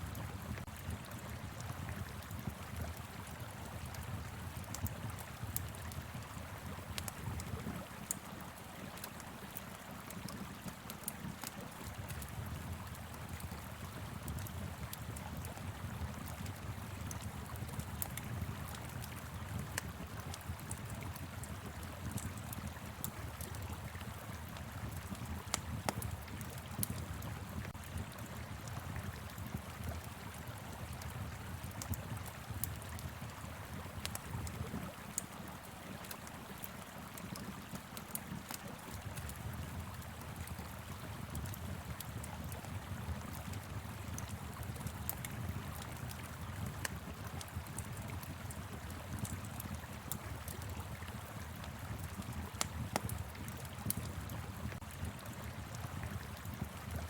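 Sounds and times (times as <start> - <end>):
wood fire crackling and popping: 0.1 - 57.0.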